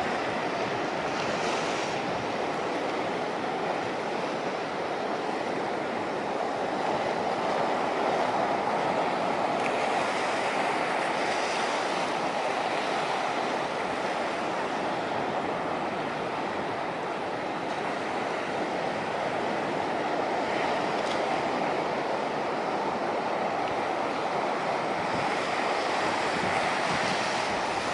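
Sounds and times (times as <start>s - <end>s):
ocean surf washing onto beach: 0.0s - 27.9s.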